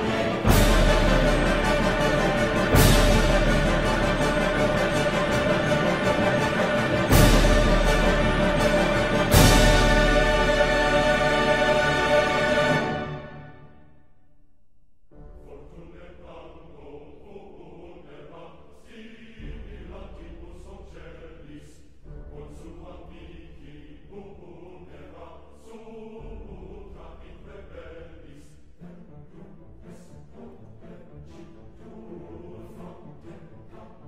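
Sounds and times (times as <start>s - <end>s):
chant-like layered tones: 0.0s - 13.7s, 15.4s - 34.0s.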